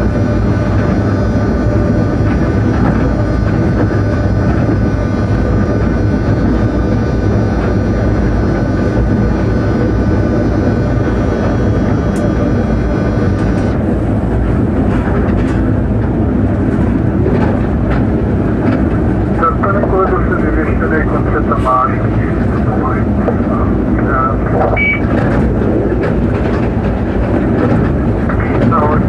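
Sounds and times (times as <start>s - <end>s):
locomotive wheels rumbling: 0.0s - 29.0s
steady multi-tone whine: 0.0s - 29.0s.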